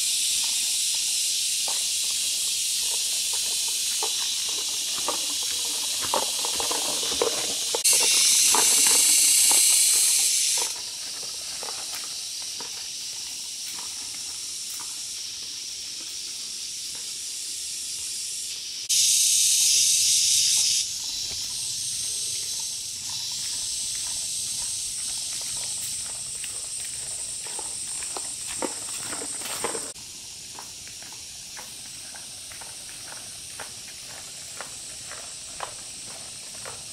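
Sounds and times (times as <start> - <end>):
insects hissing: 0.0 - 36.9.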